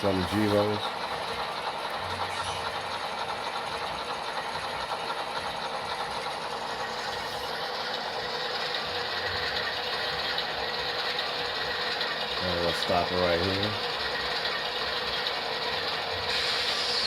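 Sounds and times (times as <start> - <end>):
model diesel engine sound: 0.0 - 17.0
model train wheels rattling: 0.0 - 17.0.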